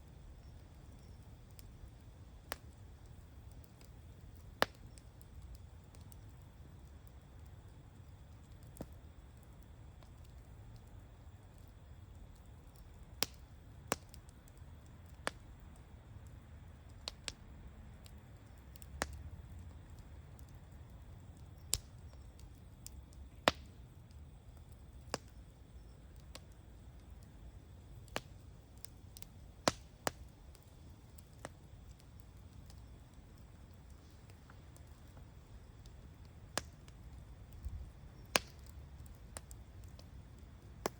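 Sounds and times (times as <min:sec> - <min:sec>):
burning wood popping: 0:00.0 - 0:40.9
low rumble of fire: 0:00.0 - 0:40.9.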